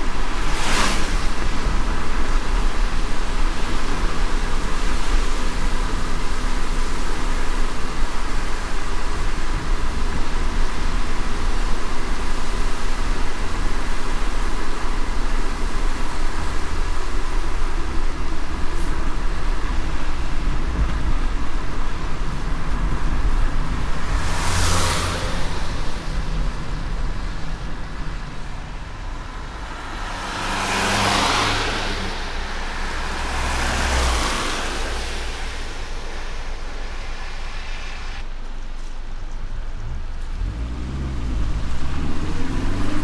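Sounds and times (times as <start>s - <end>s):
car road rumble and tyre hiss: 0.0s - 43.0s
wet road spray swishes: 0.0s - 43.0s.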